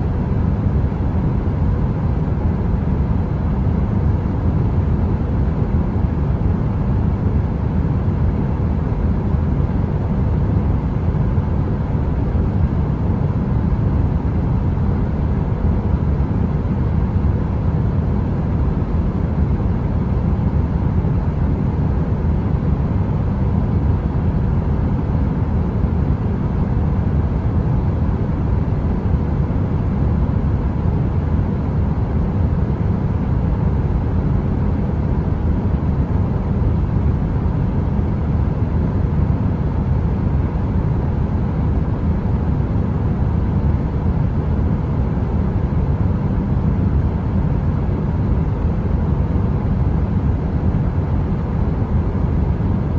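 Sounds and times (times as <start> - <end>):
deep heater rumble: 0.0 - 52.9
faint steady hum: 0.0 - 52.9.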